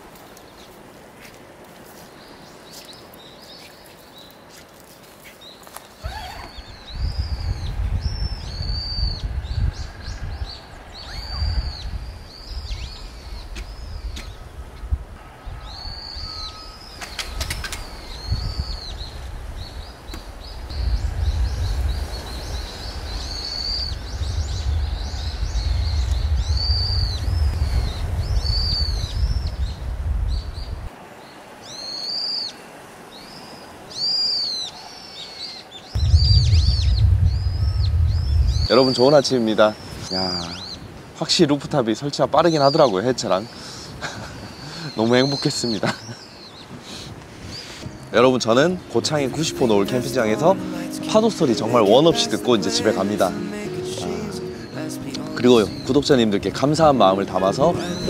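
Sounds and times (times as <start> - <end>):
small birds chirping: 2.0 - 58.0
wind buffeting microphone: 6.0 - 30.9, 35.9 - 58.0.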